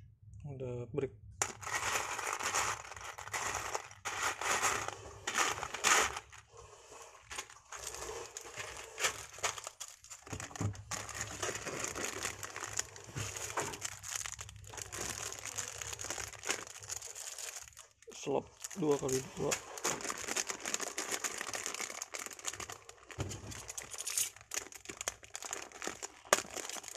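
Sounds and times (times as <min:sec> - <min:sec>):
plastic toy bricks clattering in tub: 0:01.4 - 0:06.4, 0:07.2 - 0:18.0, 0:18.6 - 0:26.9
plastic bags crinkling: 0:01.4 - 0:26.9.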